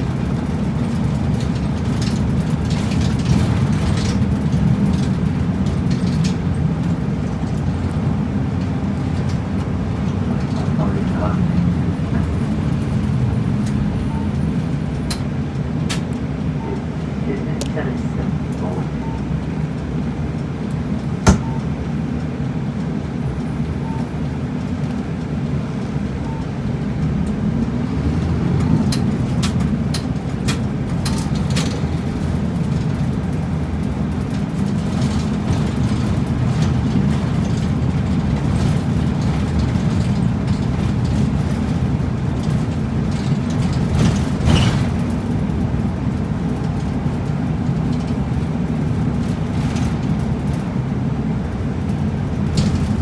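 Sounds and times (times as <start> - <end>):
bus engine running: 0.0 - 53.0.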